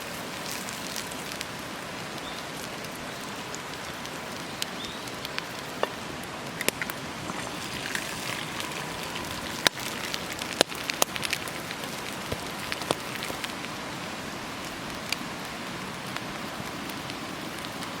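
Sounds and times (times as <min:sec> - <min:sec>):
bacon sizzling: 0:00.0 - 0:15.5.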